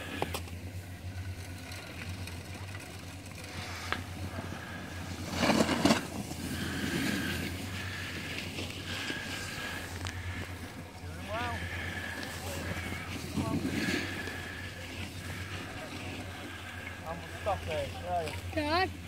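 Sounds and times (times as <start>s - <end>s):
low steady rumble: 0.0s - 19.0s
skis scraping over snow: 0.0s - 19.0s.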